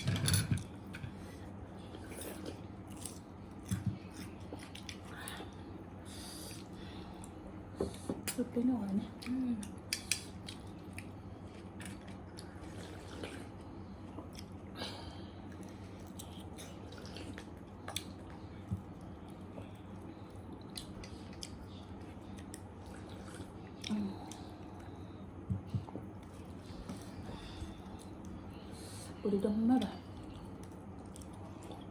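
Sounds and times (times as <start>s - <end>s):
low background hum: 0.0s - 31.9s
person chewing food: 0.6s - 5.6s, 9.2s - 14.7s, 15.4s - 28.6s, 30.1s - 31.9s.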